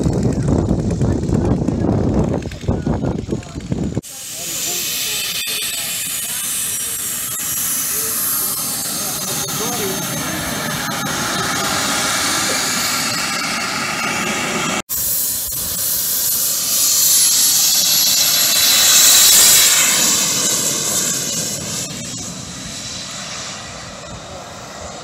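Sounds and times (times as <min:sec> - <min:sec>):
jet turbine hissing whine: 0:00.0 - 0:25.0.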